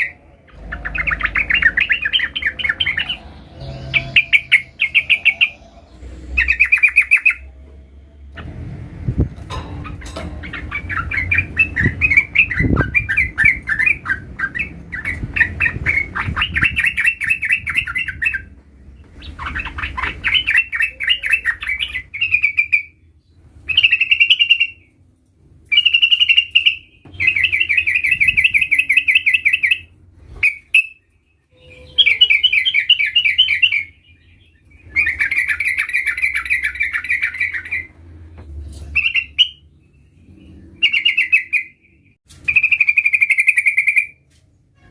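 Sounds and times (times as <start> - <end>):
bird singing rolling trills: 0.0 - 8.6, 9.5 - 25.0, 25.7 - 38.0, 38.8 - 44.2.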